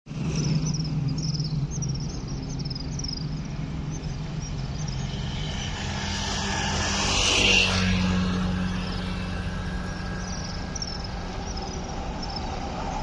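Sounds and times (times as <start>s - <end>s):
train hum: 0.1s - 13.0s.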